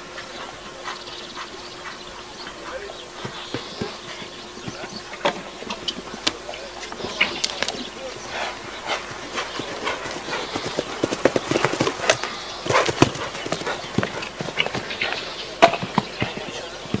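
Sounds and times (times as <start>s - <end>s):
horse hoofbeats on grass: 0.0s - 17.0s.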